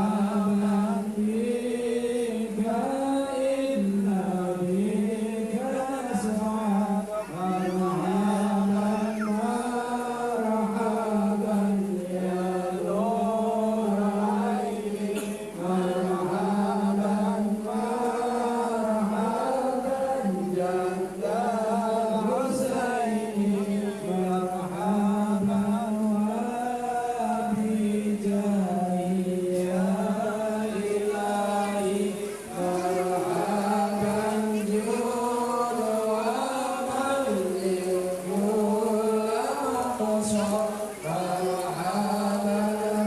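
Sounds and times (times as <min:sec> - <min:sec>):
devotional chant singing: 0:00.0 - 0:43.0.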